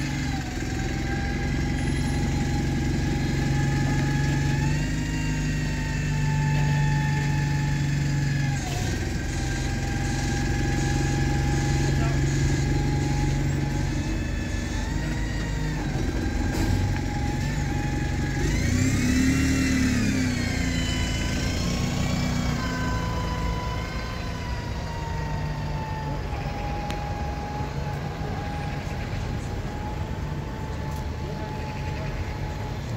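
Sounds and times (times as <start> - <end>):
diesel bus engine revving: 0.0 - 32.9.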